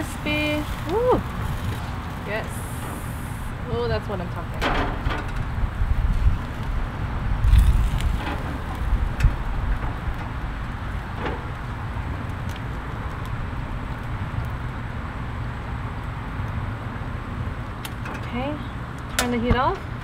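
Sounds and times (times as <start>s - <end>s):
gas grill hissing: 0.0s - 20.0s
wind rumble on microphone: 0.0s - 20.0s.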